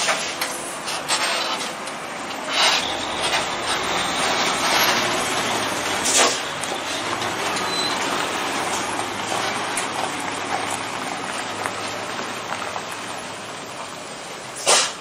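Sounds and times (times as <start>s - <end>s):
truck engine running: 0.0s - 15.0s
tyres on gravel: 0.0s - 15.0s.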